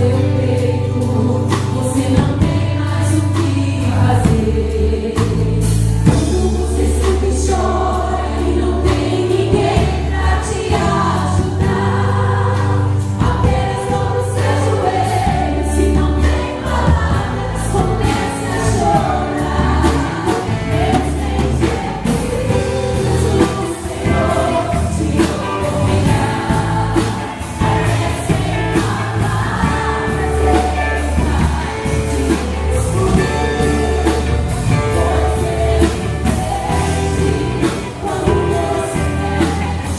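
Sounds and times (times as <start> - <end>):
band with bass and beat: 0.0 - 39.9
choir singing: 0.0 - 39.9.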